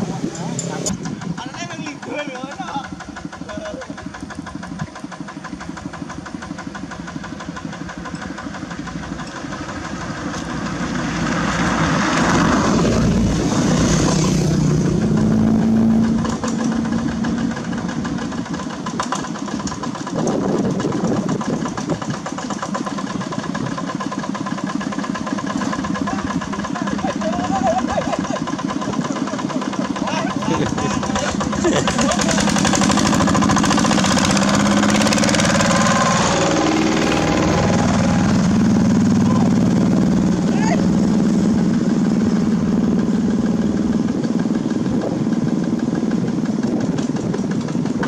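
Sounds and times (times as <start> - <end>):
diesel tractor engines chugging: 0.0 - 48.0.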